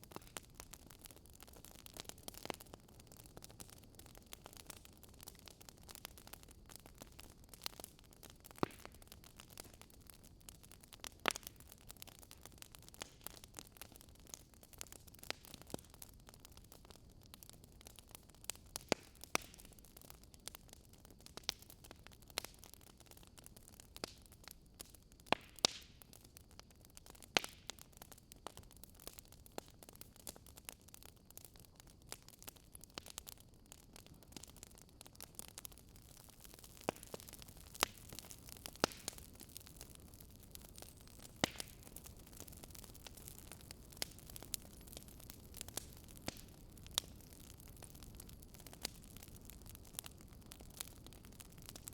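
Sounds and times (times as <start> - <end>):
faint steady hiss: 0.0 - 51.9
wood fire crackling: 0.0 - 51.9.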